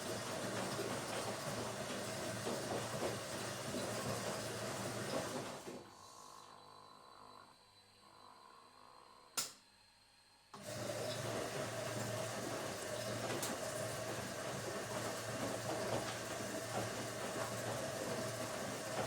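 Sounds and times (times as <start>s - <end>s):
washing machine humming and rushing: 0.0s - 7.3s, 10.5s - 19.0s.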